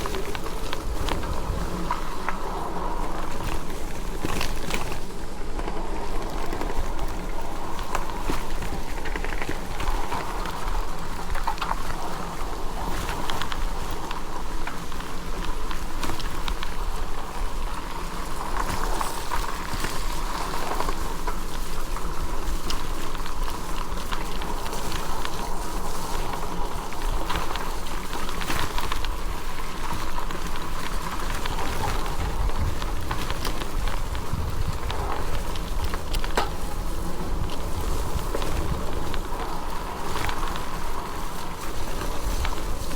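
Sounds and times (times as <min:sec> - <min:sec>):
bike tyres on wet mud: 0:00.0 - 0:42.9
wind rumble on microphone: 0:00.0 - 0:42.9.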